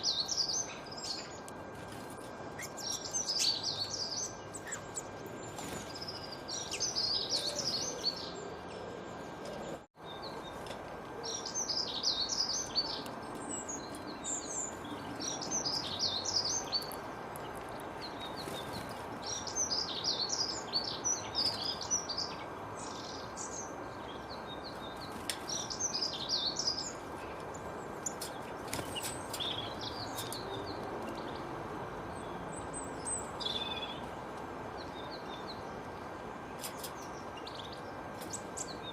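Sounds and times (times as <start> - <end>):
songbirds twittering: 0.0 - 38.9.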